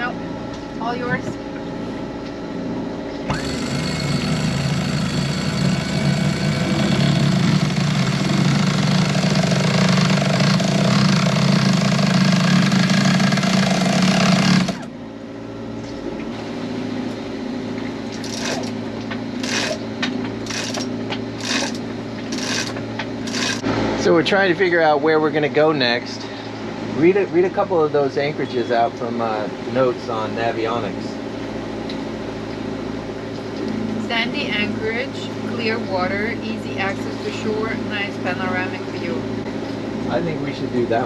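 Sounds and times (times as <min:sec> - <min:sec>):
machine running with low hum: 0:00.0 - 0:41.0.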